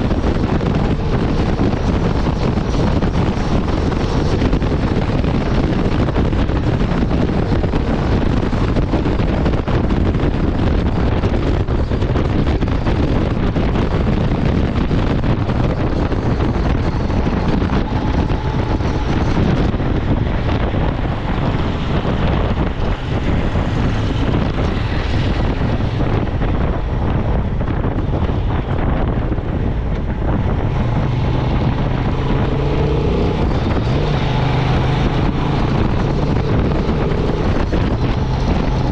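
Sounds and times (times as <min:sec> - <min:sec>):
motorcycle engine at speed: 0:00.0 - 0:38.9
wind buffeting microphone: 0:00.0 - 0:38.9.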